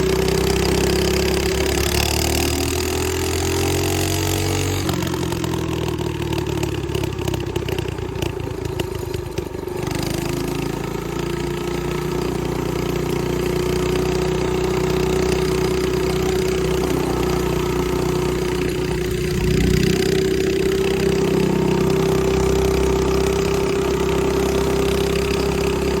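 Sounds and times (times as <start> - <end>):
mini bike engine running: 0.0 - 26.0.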